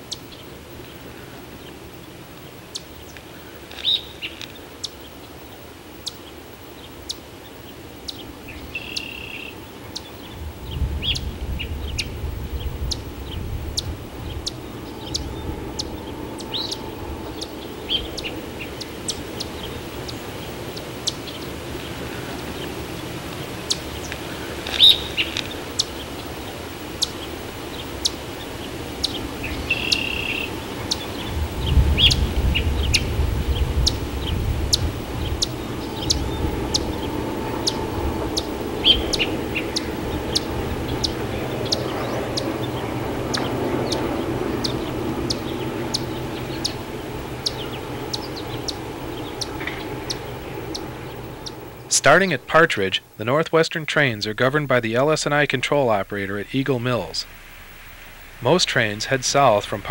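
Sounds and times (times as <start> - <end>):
birds chirping: 0.0 - 59.9
distant train rumble: 0.0 - 59.9.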